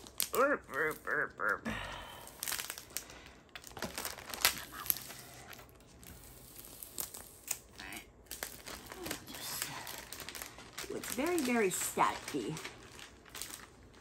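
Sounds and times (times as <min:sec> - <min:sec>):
plastic film crinkling: 0:00.0 - 0:01.6, 0:02.2 - 0:14.0.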